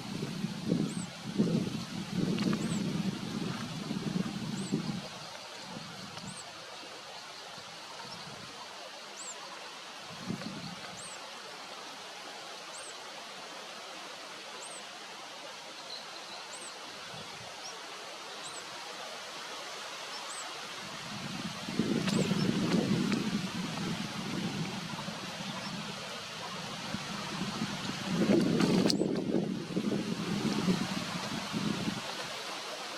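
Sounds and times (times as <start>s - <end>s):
outdoor ambient hiss: 0.0s - 32.9s.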